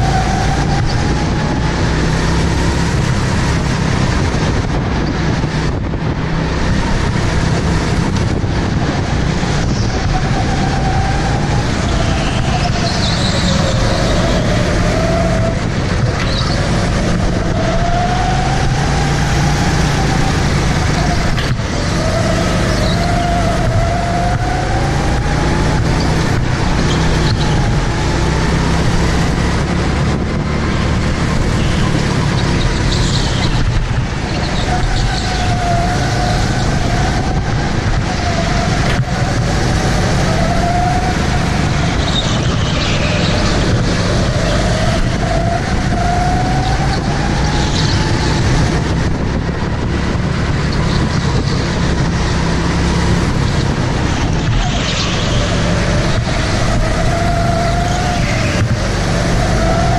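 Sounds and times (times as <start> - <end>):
go-kart engine running hard: 0.0 - 59.9.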